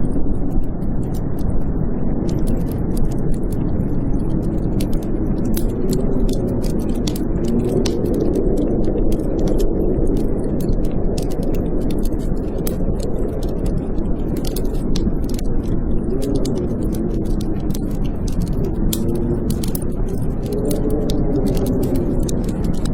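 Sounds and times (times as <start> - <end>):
blizzard wind howling: 0.0 - 22.9
wood fire crackling: 0.0 - 22.9.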